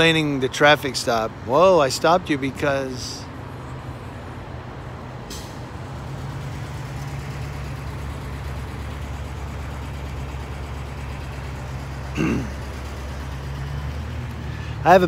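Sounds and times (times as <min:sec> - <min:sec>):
vehicle engine idling: 0:02.5 - 0:15.0.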